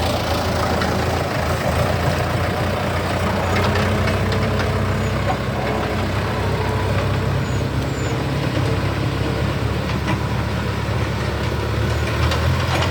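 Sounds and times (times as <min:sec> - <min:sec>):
heavy engine idling: 0:00.0 - 0:12.9.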